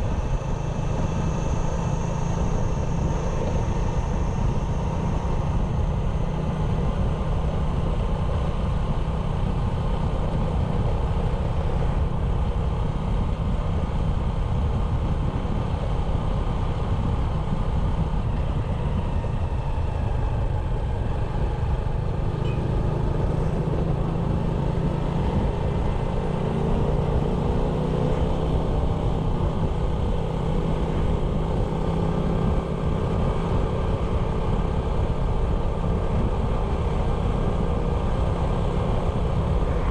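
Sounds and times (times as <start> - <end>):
low rumble: 0.0 - 39.9
motorbike engine running: 0.0 - 39.9.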